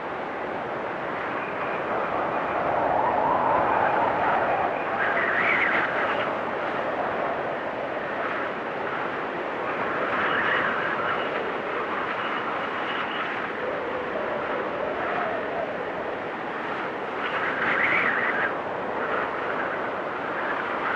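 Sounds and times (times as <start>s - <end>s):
storm wind whistling: 0.0s - 20.9s.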